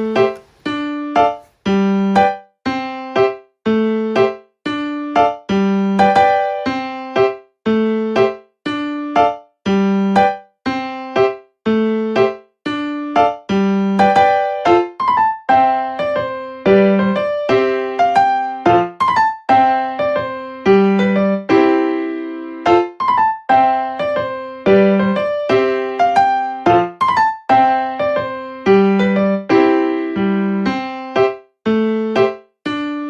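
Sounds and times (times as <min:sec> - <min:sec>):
electric piano piece: 0:00.0 - 0:33.0.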